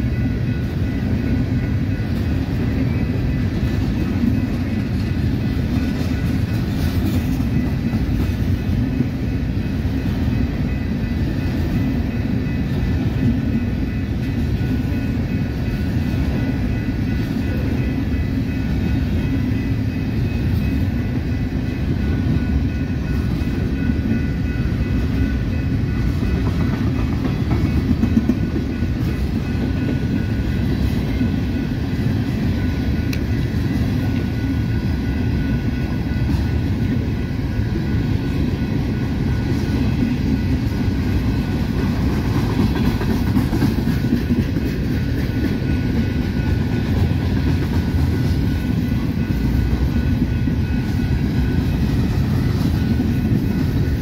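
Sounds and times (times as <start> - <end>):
faint high steady tones: 0.0 - 54.0
train wheels rumbling on rails: 0.0 - 54.0.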